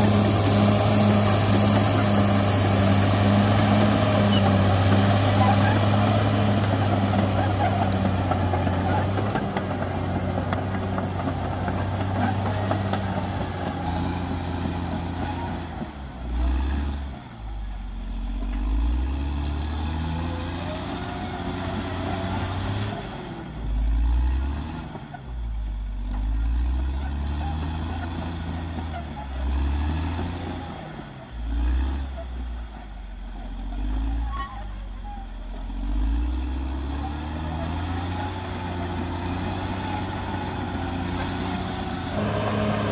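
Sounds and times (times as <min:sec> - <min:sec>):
bulldozer diesel engine: 0:00.0 - 0:42.9.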